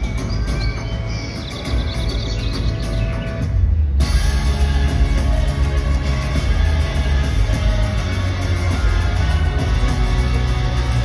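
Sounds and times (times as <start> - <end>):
dance music over sound system: 0.0 - 11.0.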